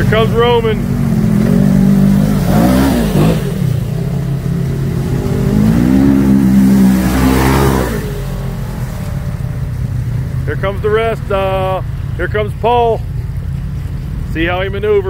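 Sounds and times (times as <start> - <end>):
utility vehicle engine revving: 0.0 - 15.0
water splashing: 0.0 - 15.0.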